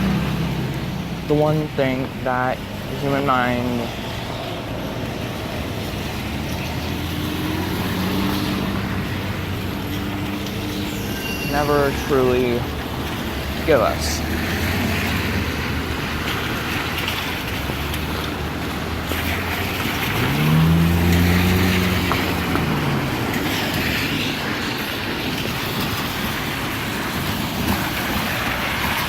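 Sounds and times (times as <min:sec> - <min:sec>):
motor vehicle passing: 0:00.0 - 0:01.3, 0:02.3 - 0:29.0.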